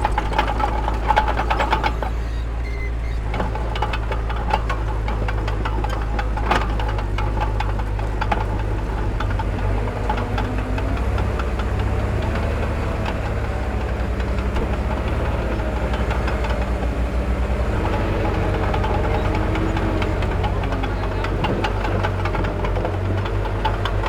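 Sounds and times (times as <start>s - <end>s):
diesel engine throbbing: 0.0s - 24.0s.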